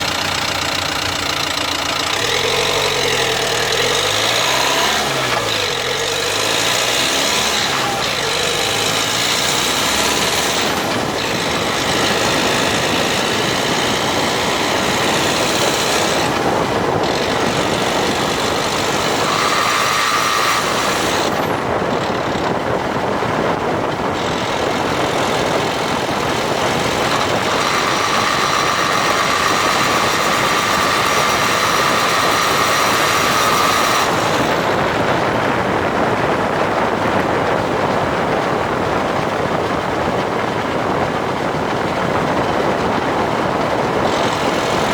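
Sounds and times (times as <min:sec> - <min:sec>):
high grinding tone: 0:00.0 - 0:35.8, 0:42.7 - 0:44.9
car engine and road noise: 0:00.0 - 0:44.9.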